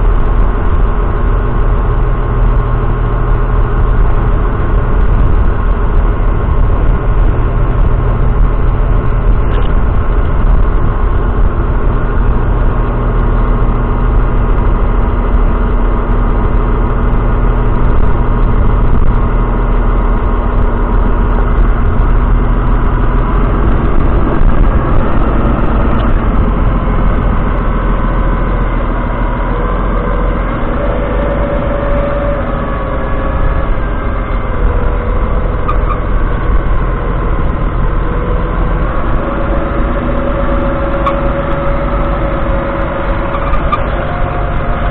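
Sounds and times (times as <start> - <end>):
tractor diesel engine droning: 0.0 - 44.9.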